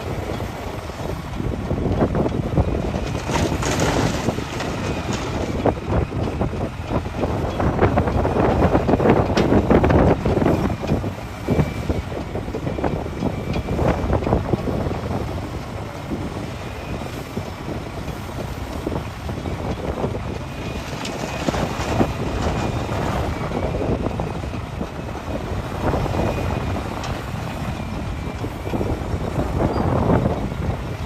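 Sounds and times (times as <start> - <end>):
excavator diesel engine: 0.0 - 31.0.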